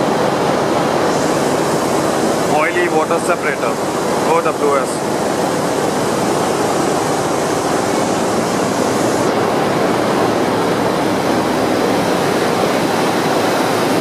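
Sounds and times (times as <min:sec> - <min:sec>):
engine room machinery din: 0:00.0 - 0:14.0.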